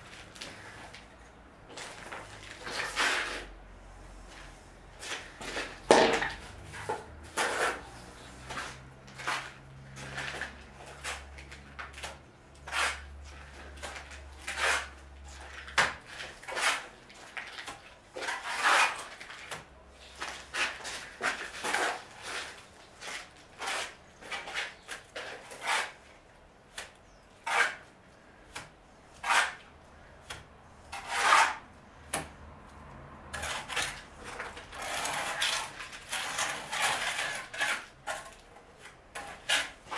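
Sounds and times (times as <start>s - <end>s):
hand tool scraping brick and mortar: 1.7s - 3.5s, 5.0s - 26.1s, 26.8s - 28.0s, 28.6s - 31.6s, 33.3s - 39.9s.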